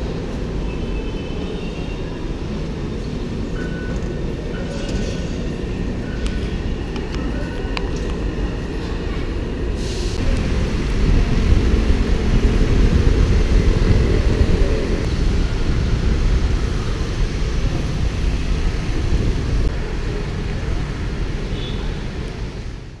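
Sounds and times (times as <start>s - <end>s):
city street traffic rumble: 0.0s - 23.0s.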